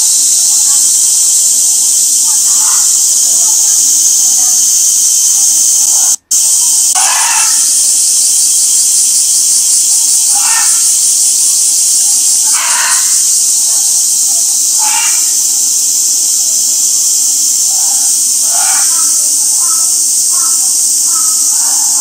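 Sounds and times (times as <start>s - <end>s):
cicadas shrilling: 0.0s - 22.0s.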